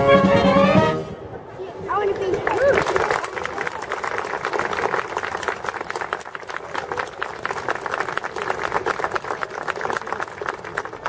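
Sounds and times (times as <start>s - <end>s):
audience applauding: 1.9s - 11.0s.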